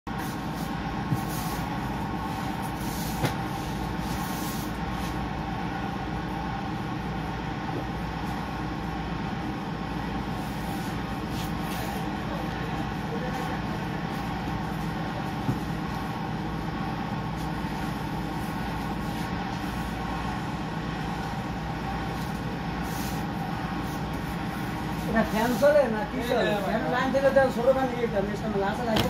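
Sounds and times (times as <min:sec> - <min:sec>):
steady mechanical hum: 0:00.1 - 0:29.0.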